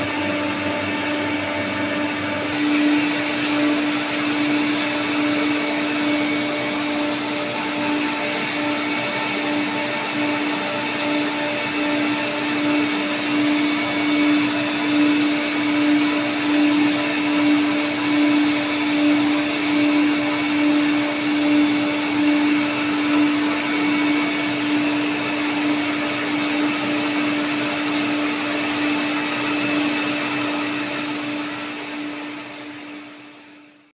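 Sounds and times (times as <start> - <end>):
drilling machine motor hum: 2.5 - 33.7.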